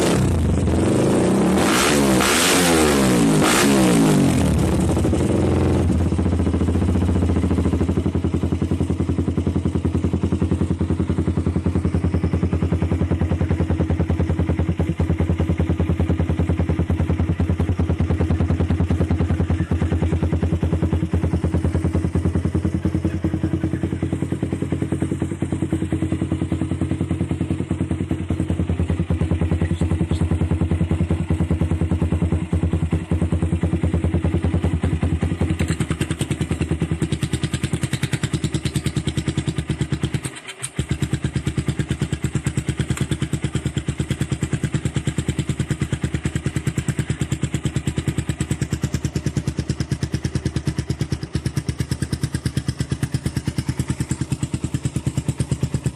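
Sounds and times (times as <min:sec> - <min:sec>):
motorcycle engine idling: 0:00.0 - 0:01.5, 0:03.0 - 0:55.9.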